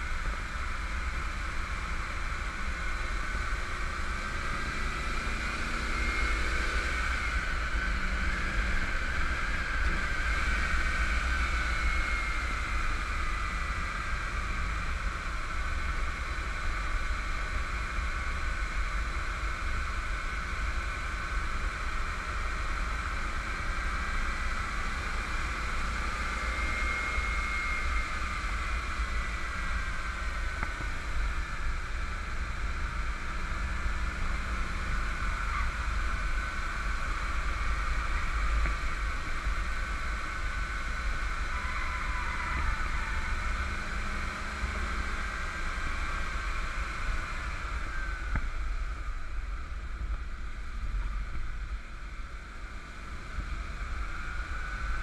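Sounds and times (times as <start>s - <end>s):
car engine: 0.0s - 55.0s.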